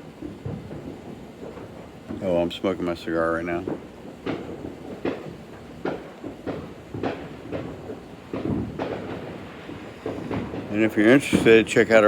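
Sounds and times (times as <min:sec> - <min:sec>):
distant fireworks bangs: 0:00.0 - 0:12.0.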